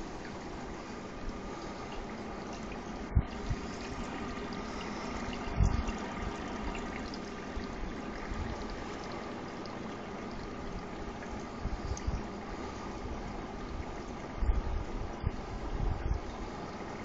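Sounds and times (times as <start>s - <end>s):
water trickling from aquarium filter: 0.0s - 17.0s.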